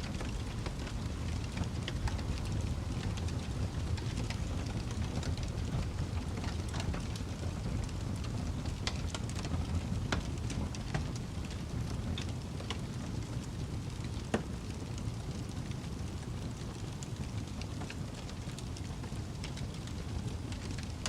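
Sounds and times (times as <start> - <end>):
fire roaring and crackling: 0.0 - 21.0.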